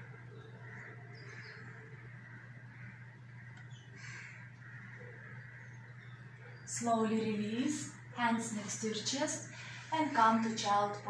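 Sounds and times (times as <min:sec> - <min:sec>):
faint bird calls: 0:00.0 - 0:10.6
steady low hum: 0:00.0 - 0:11.0.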